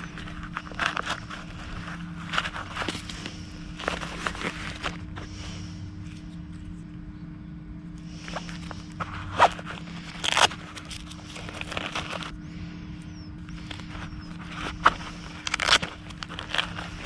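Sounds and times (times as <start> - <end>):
rustling and handling noises: 0.0 - 7.2, 7.9 - 17.0
steady low hum: 0.0 - 17.0.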